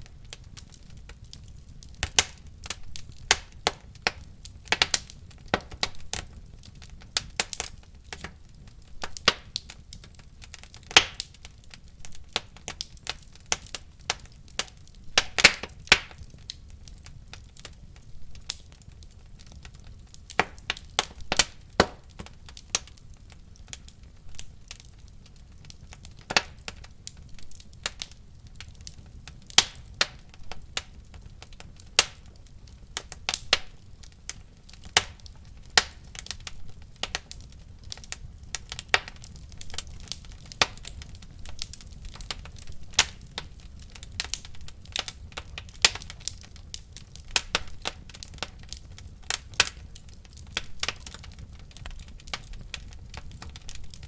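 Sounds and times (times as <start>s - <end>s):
fire crackling and popping: 0.0s - 54.0s
flames rumbling: 0.0s - 54.0s.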